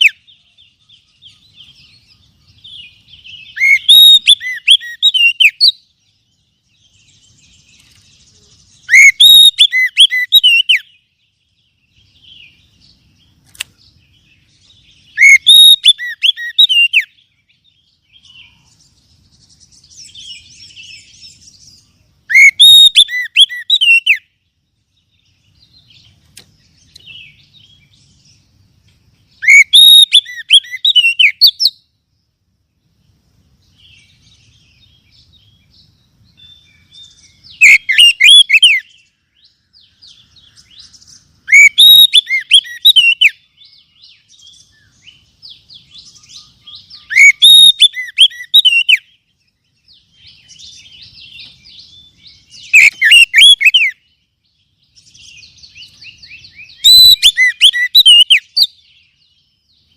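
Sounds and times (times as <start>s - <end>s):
bird chattering and twittering: 0.0s - 59.9s
bird singing warbled phrases: 0.0s - 59.9s.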